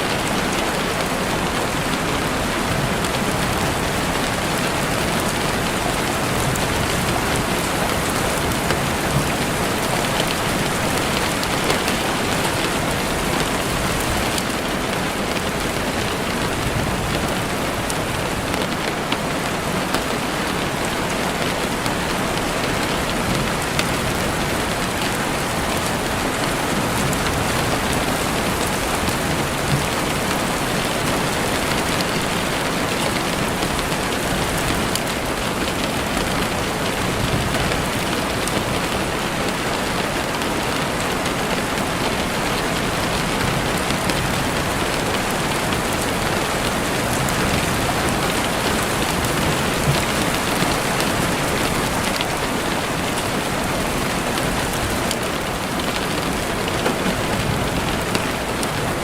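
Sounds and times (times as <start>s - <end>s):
rain falling through trees: 0.0s - 59.0s.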